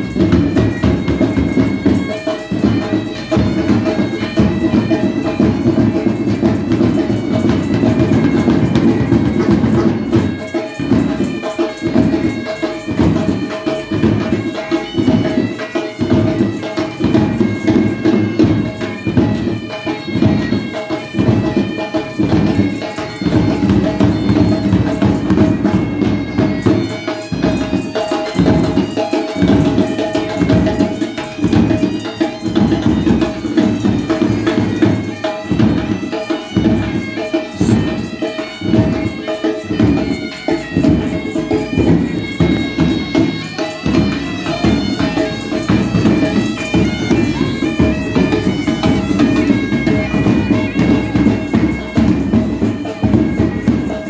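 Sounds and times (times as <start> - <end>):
bagpipes playing melody: 0.0 - 54.0
drums beating: 0.0 - 54.0.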